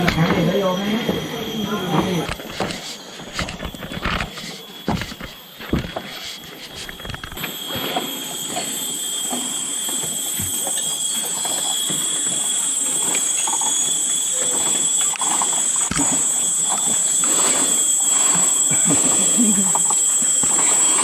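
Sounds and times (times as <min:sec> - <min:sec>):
cicadas droning: 0:00.0 - 0:21.0.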